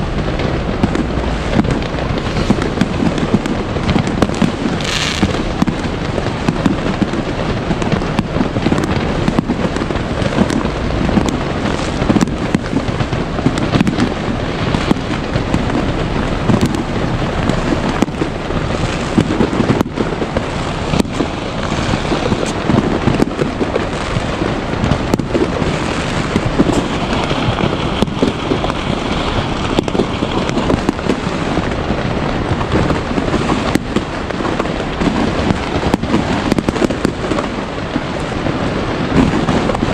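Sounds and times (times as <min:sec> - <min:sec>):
fireworks bangs and booms: 0:00.0 - 0:39.9
fireworks crackle: 0:00.0 - 0:39.9
hissing crackle: 0:00.0 - 0:39.9.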